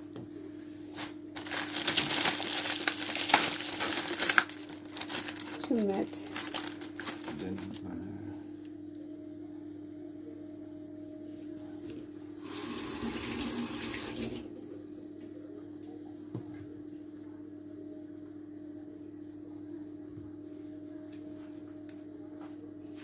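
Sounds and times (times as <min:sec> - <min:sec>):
steady low hum: 0:00.0 - 0:12.4, 0:14.4 - 0:23.0.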